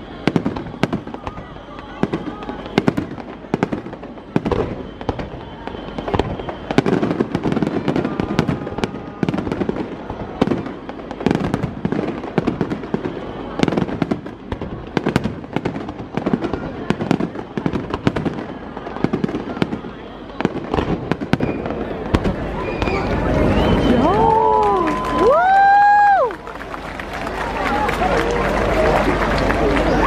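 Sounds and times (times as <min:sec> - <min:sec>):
heavy fireworks booms: 0:00.0 - 0:26.0
fireworks bangs and crackles: 0:00.0 - 0:30.0.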